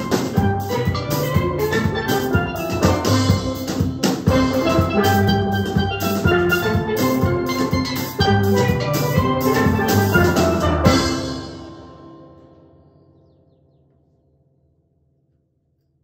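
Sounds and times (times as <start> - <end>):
steel band playing: 0.0 - 12.8.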